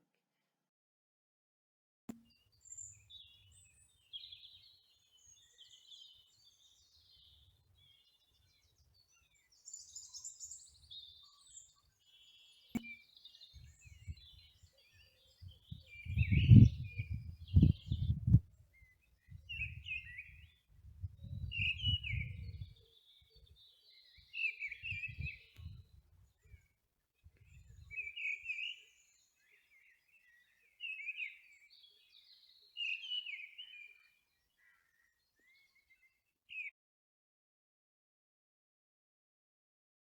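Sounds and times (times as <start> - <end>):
birds singing: 2.3 - 26.8, 27.4 - 36.7.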